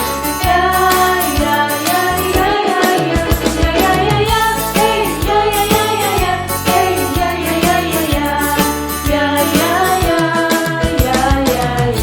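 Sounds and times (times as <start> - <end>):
backing track with steady beat: 0.0 - 12.0
children singing worship song: 0.4 - 12.0.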